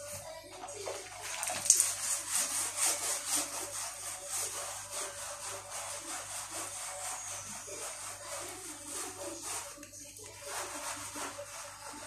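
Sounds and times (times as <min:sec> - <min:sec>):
rhythmic scrubbing strokes: 0:00.0 - 0:12.0.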